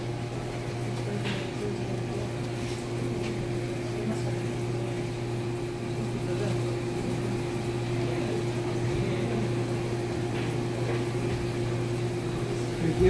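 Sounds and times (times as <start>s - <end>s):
electric water pump humming: 0.0s - 13.0s.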